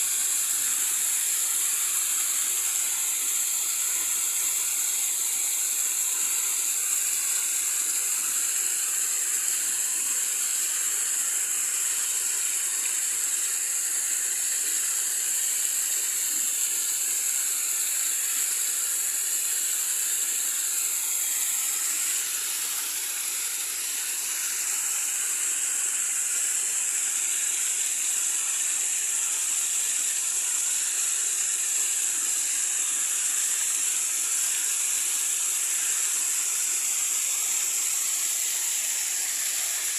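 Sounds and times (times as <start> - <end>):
running water rushing hiss: 0.0 - 39.9.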